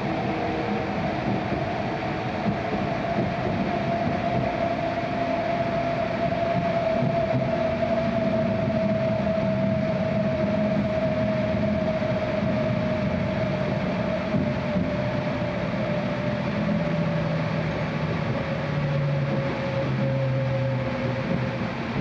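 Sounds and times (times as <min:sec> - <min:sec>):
train running rumble: 0:00.0 - 0:22.0
train whine: 0:00.0 - 0:22.0.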